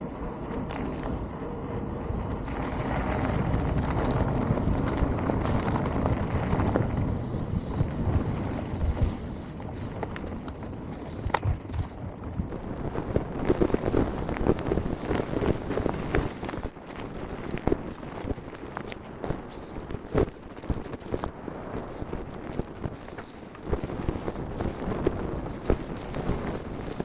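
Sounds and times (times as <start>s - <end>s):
bike tyres and frame rattling: 0.0s - 27.0s
wind noise on microphone: 0.0s - 27.0s.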